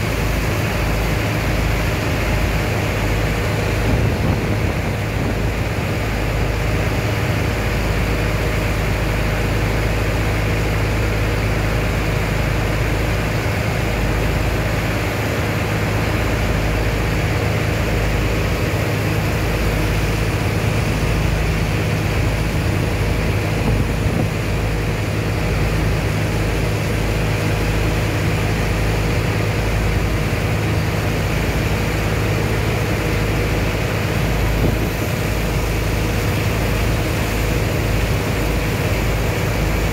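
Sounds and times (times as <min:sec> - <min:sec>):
water jets splashing onto sand: 0:00.0 - 0:39.9.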